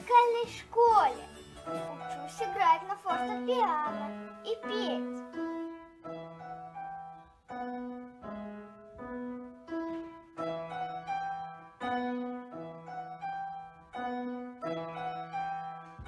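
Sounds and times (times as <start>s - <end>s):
piano playing a simple tune: 0.0s - 16.0s.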